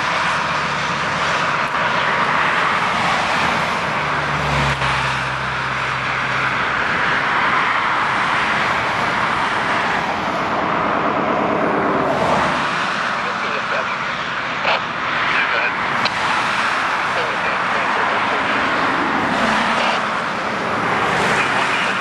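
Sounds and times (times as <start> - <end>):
highway traffic rushing: 0.0 - 22.0
vehicle engine hum: 0.0 - 22.0.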